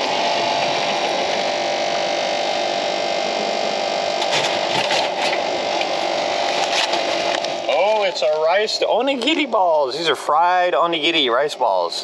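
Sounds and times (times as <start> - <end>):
vending machine humming: 0.0 - 12.0.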